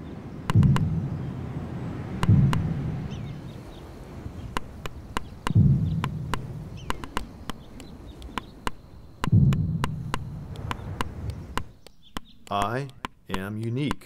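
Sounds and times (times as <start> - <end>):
low rumbles: 0.0 - 13.8.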